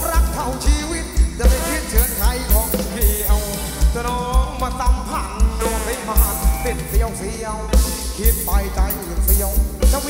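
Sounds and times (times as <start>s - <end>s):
dance band over loudspeakers: 0.0s - 10.0s
heavy bass drum beat: 0.0s - 10.0s
person singing: 0.0s - 10.0s.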